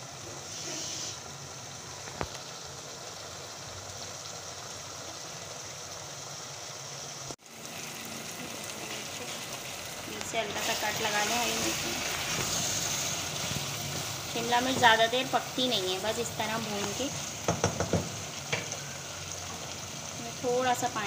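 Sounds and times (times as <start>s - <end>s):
meat and vegetables sizzling in oil: 0.0s - 21.0s.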